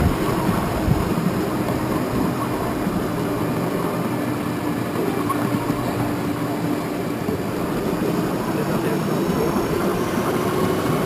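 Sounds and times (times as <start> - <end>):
model tram rolling on track: 0.0 - 11.0.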